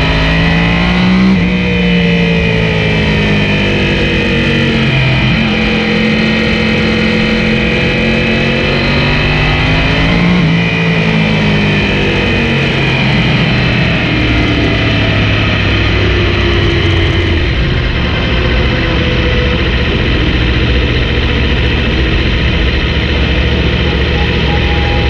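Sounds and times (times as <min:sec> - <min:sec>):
motorcycle engine at low revs: 0:00.0 - 0:25.0
wind and road noise: 0:00.0 - 0:25.0.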